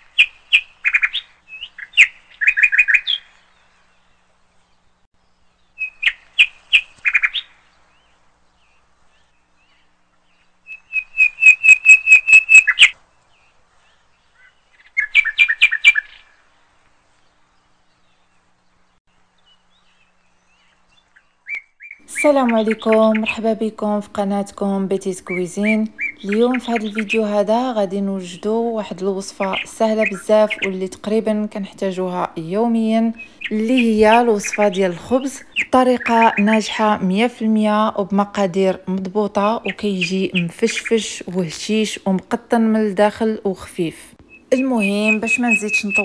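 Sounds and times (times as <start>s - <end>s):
small bird chirping trills: 0.0s - 42.4s, 43.0s - 46.0s.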